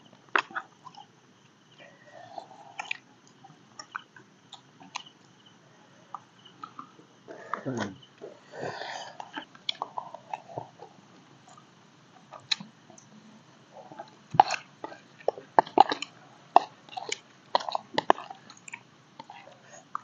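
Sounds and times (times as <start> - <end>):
chewing: 1.8 - 5.4, 6.1 - 13.1, 13.7 - 20.0.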